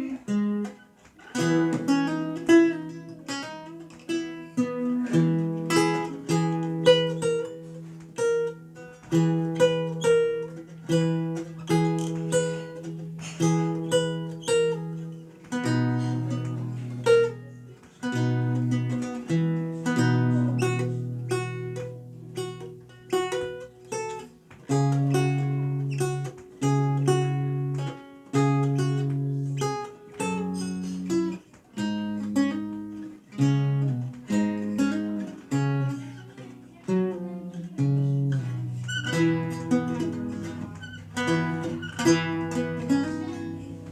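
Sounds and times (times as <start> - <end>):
solo lute playing: 0.0 - 43.9.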